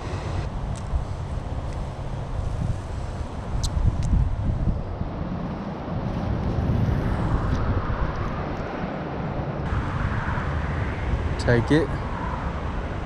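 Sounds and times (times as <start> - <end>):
highway traffic rumble: 0.0 - 13.0
wind buffeting microphone: 0.0 - 13.0.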